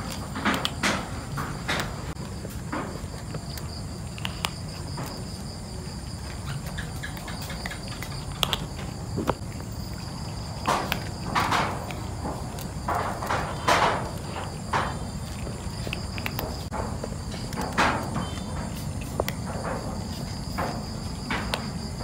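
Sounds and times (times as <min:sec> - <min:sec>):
cat crunching dry kibble: 0:00.0 - 0:22.0
high insect trill: 0:00.0 - 0:22.0.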